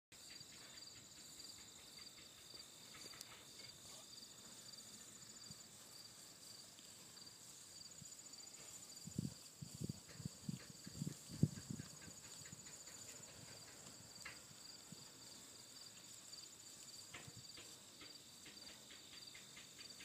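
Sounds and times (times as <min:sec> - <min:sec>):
insects chirring: 0:00.2 - 0:20.0.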